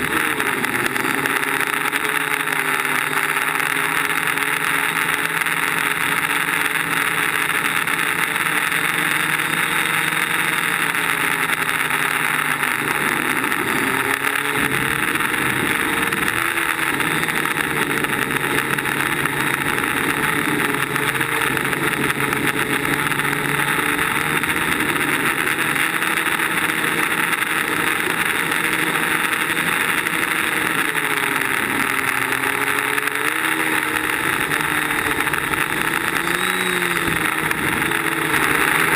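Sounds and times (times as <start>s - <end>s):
quadcopter propellers buzzing: 0.0s - 38.9s.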